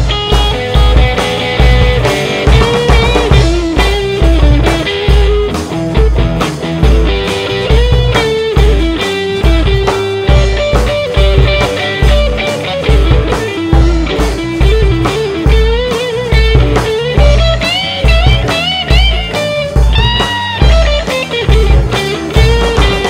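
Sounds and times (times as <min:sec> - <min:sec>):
bass line: 0:00.0 - 0:23.0
drums: 0:00.0 - 0:23.0
electric guitar lead with bent notes: 0:00.0 - 0:23.0.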